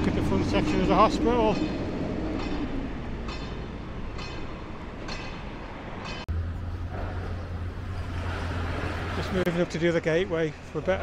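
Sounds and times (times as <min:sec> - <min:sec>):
urban background rumble: 0:00.0 - 0:11.0.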